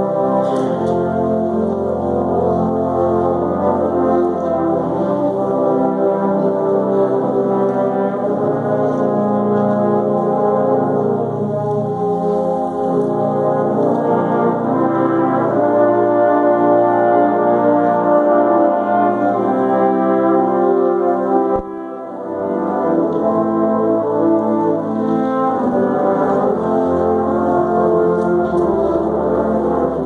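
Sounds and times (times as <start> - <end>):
trombone choir playing chords: 0.0 - 30.0.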